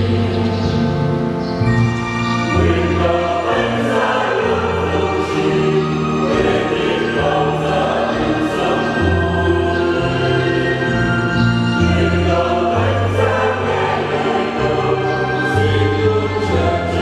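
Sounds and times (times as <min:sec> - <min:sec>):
mixed choir singing a hymn: 0:00.0 - 0:01.1, 0:02.4 - 0:17.0.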